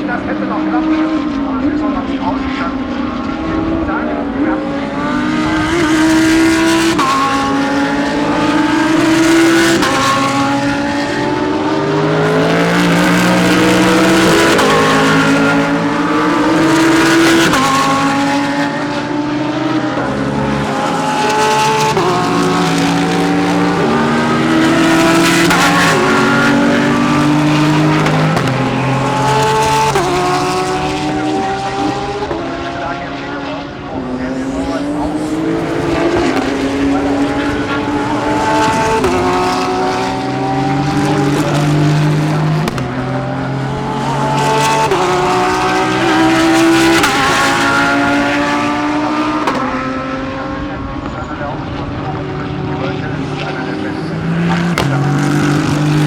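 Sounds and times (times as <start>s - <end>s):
race car engines upshifting: 0.0s - 56.0s.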